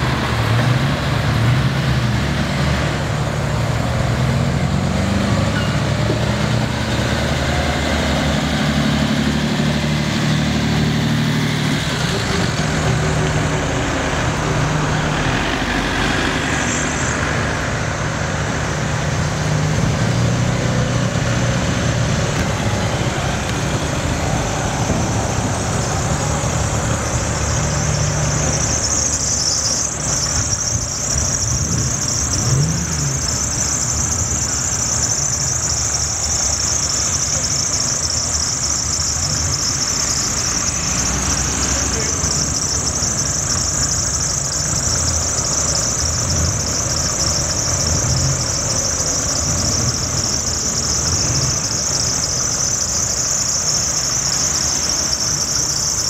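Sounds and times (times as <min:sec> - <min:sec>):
car engines idling: 0:00.0 - 0:56.0
high-pitched hiss: 0:02.6 - 0:56.0.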